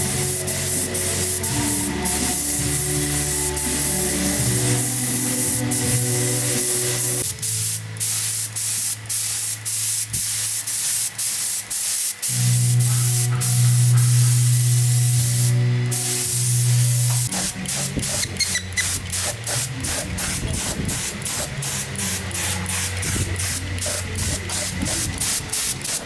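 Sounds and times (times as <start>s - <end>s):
spray gun hissing in bursts: 0.0s - 26.0s.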